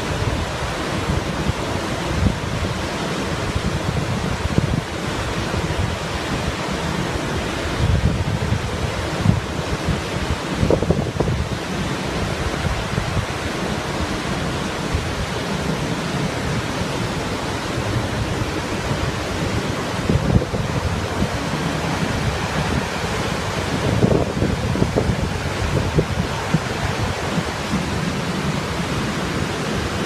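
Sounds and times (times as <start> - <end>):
waterfall roaring: 0.0 - 30.0
wind buffeting microphone: 0.0 - 30.0.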